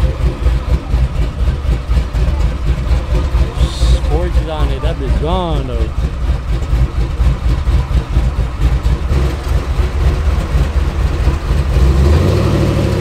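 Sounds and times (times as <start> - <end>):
engine pulsing low rumble: 0.0 - 13.0.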